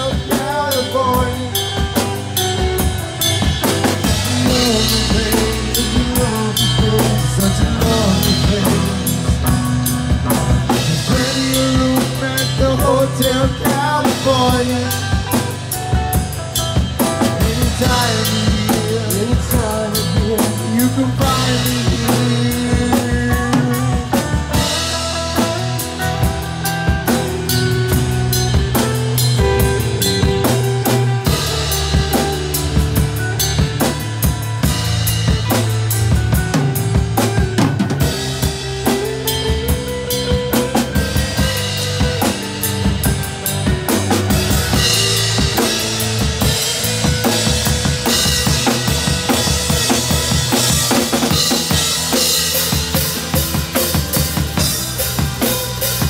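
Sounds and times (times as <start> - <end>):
bass guitar: 0.0 - 56.0
drum kit: 0.0 - 56.0
electric guitars: 0.0 - 56.0
lead guitar bending notes: 0.0 - 56.0.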